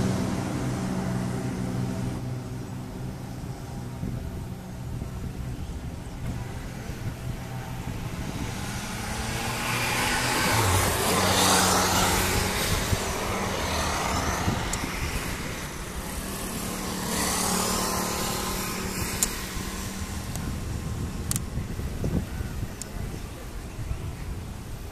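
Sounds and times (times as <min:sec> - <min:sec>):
propeller plane engine at full power: 0:00.0 - 0:24.9.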